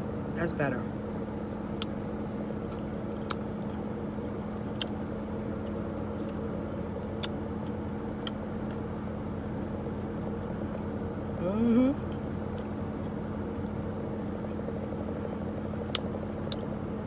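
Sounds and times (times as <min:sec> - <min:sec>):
air conditioning running: 0:00.0 - 0:17.0.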